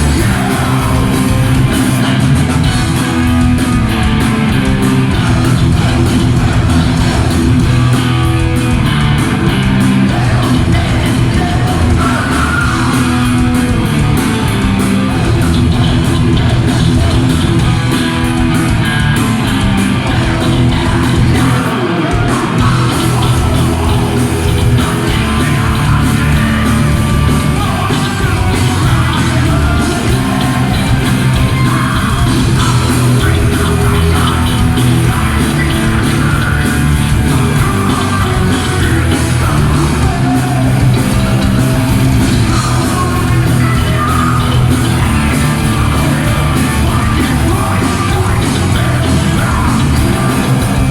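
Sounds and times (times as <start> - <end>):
bass guitar: 0.0 - 50.9
distorted electric guitars: 0.0 - 50.9
drums: 0.0 - 50.9
vocalist singing: 0.0 - 50.9.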